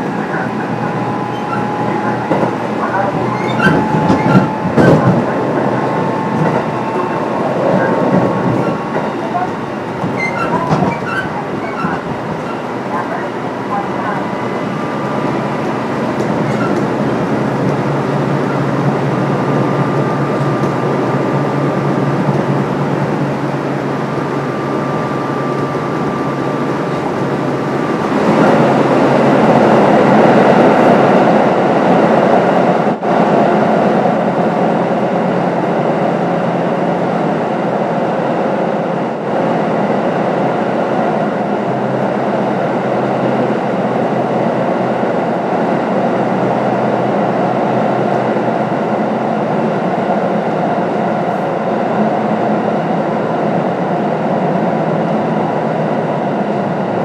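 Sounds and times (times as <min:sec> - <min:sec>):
train wheels and motors running: 0:00.0 - 0:57.0.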